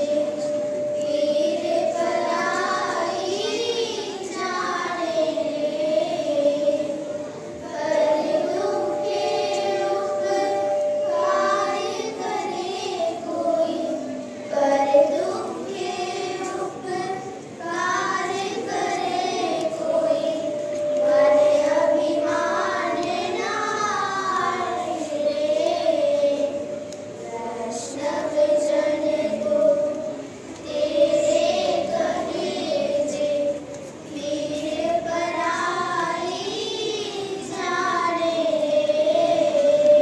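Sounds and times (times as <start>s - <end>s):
children singing into a microphone: 0.0s - 40.0s.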